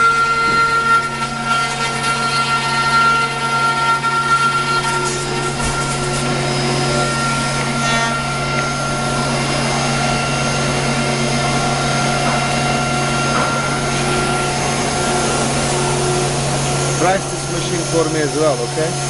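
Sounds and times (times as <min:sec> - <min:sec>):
wood router cutting: 0:00.0 - 0:19.0.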